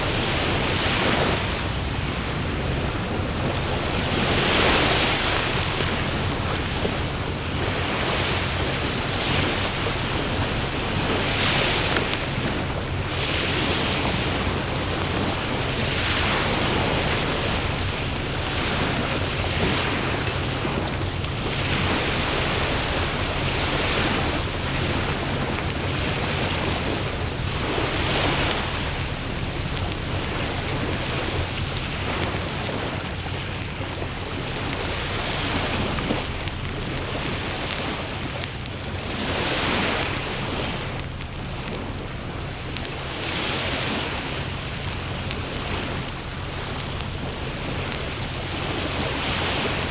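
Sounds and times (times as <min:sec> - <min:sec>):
bonfire flames rushing: 0:00.0 - 0:49.9
faint fire crackles: 0:00.0 - 0:49.9.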